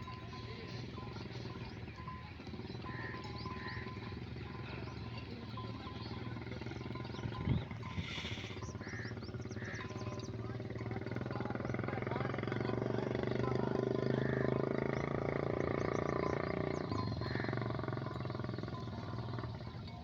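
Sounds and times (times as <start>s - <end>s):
sheep bells clinking: 0.0s - 20.0s.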